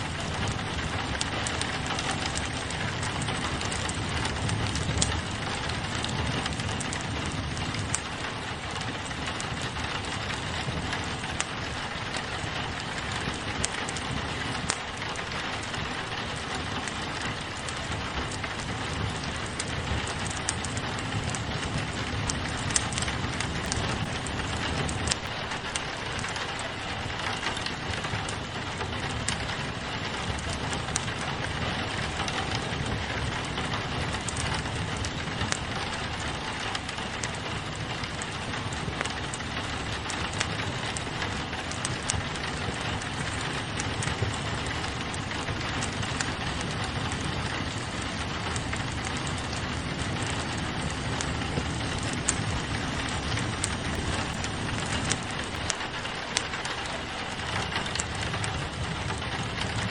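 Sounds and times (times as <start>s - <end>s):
fireplace crackling: 0.0s - 59.9s
rain on window glass: 0.0s - 59.9s.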